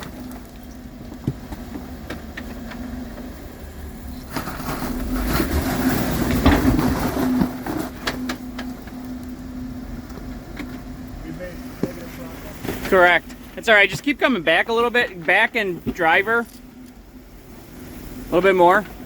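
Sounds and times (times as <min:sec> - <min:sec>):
off-road vehicle engine humming: 0:00.0 - 0:19.0.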